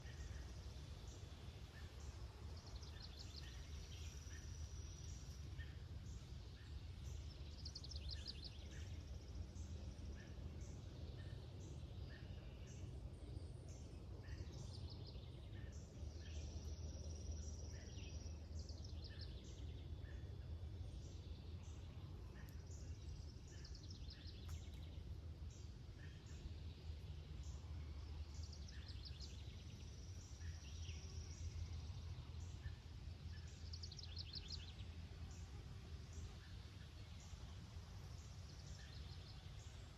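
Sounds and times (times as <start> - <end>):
steady low rumble: 0.0 - 39.9.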